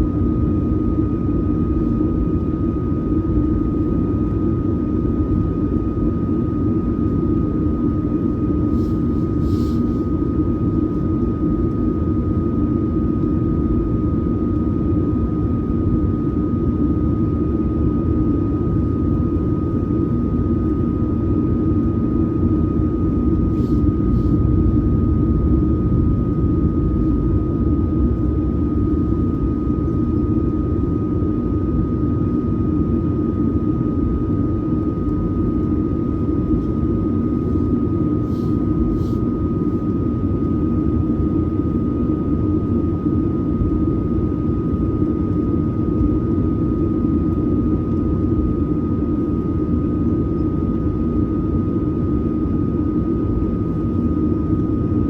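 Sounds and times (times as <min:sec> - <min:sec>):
jet engine cabin rumble: 0:00.0 - 0:55.0
steady high whine: 0:00.0 - 0:55.0.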